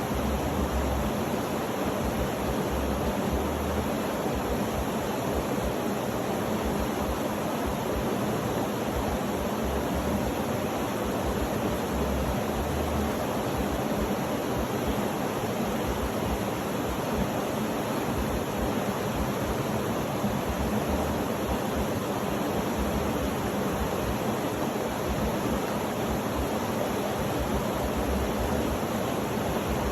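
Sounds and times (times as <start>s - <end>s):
continuous rushing hiss: 0.0s - 29.9s.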